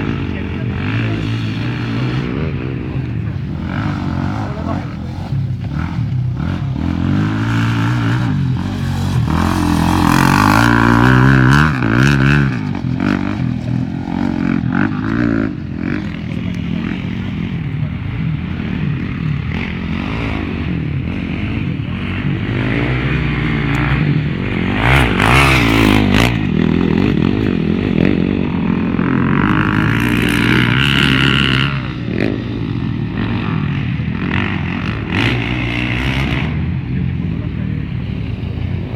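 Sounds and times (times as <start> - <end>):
motocross engines revving: 0.0 - 38.9.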